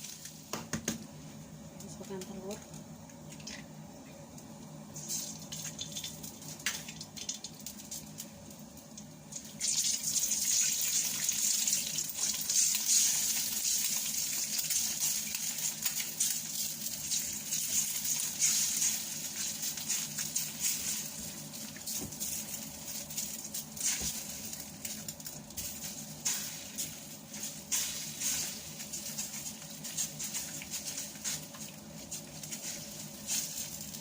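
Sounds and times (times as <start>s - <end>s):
egg sizzling in hot oil: 0.0s - 0.7s, 4.4s - 34.0s.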